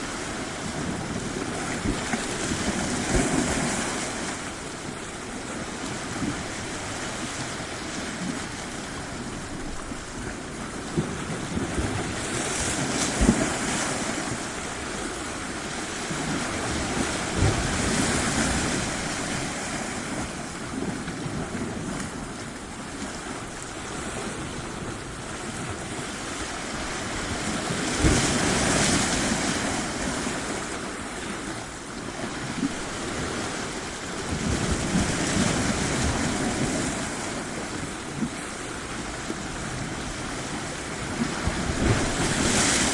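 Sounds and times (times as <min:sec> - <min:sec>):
low thump of breaking waves: 0:00.0 - 0:42.9
ocean waves washing onto shore: 0:00.0 - 0:42.9.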